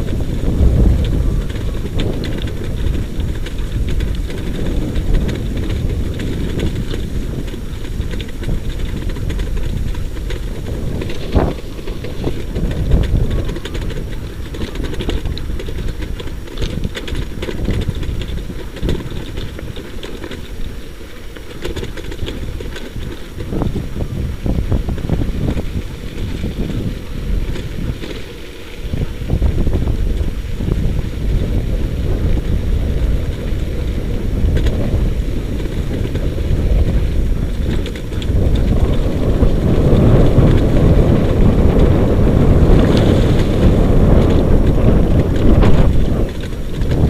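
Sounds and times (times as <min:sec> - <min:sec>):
wheeled rig rumbling over dirt: 0:00.0 - 0:47.0
wind buffeting microphone: 0:00.0 - 0:47.0.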